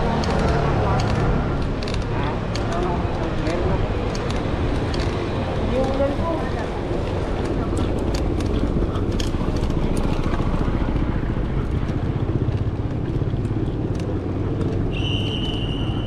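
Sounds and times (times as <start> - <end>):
motorcycle engines: 0.0 - 16.0
road traffic: 0.0 - 16.0.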